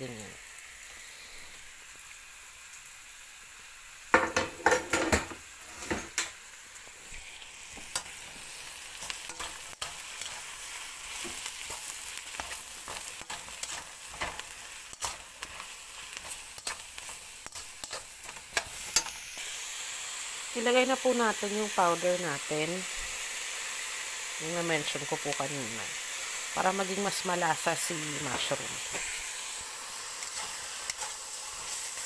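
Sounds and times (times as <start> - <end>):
mushrooms and onion sizzling: 0.0 - 32.0.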